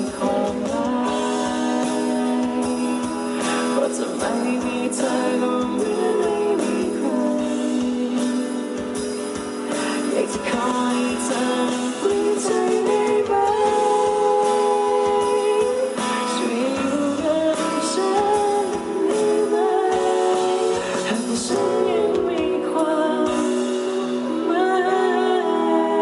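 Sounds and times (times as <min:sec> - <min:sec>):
live pop band music: 0:00.0 - 0:26.0.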